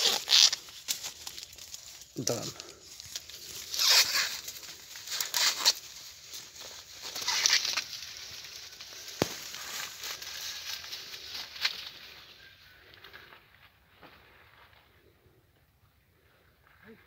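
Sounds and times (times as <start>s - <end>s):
corn husk tearing and rustling: 0.0s - 14.7s.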